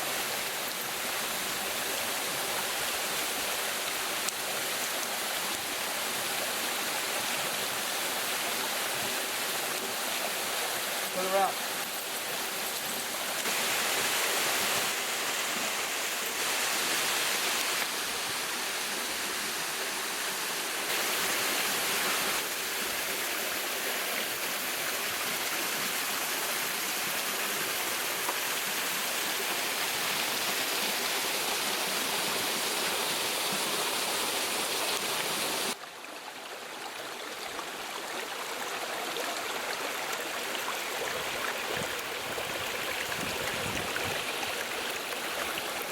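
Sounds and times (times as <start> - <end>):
waterfall water rushing: 0.0 - 45.9.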